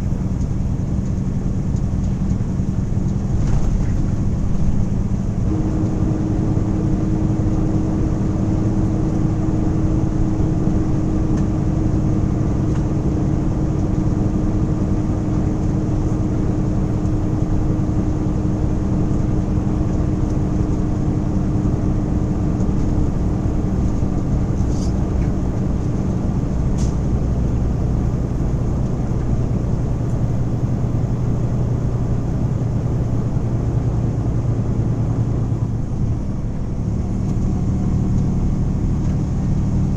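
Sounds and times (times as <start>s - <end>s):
tyre road noise: 0.0s - 39.9s
vehicle engine drone: 0.0s - 39.9s.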